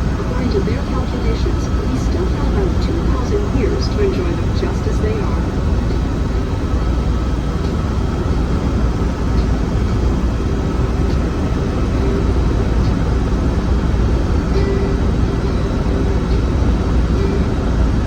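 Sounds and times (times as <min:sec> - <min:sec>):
helicopter rotor and engine rumble: 0:00.0 - 0:18.0.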